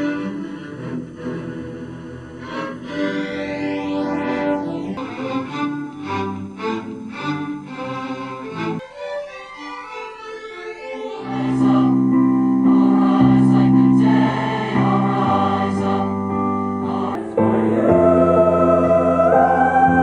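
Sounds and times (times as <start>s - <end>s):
choir singing held chords: 0.0s - 8.8s, 10.8s - 20.0s.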